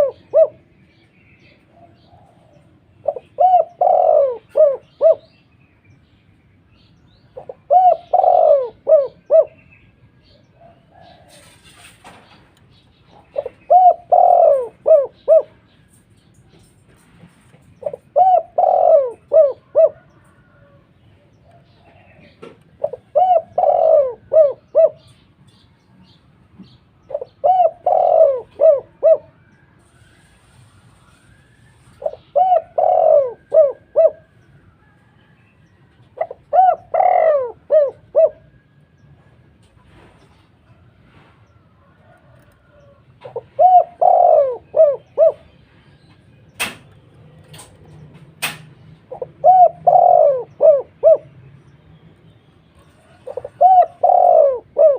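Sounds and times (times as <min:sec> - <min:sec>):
doves cooing: 0:00.0 - 0:00.9, 0:01.6 - 0:05.4, 0:07.3 - 0:12.5, 0:13.1 - 0:16.0, 0:16.6 - 0:25.2, 0:27.0 - 0:30.5, 0:31.2 - 0:40.1, 0:41.5 - 0:45.6, 0:47.2 - 0:51.5, 0:52.8 - 0:54.9.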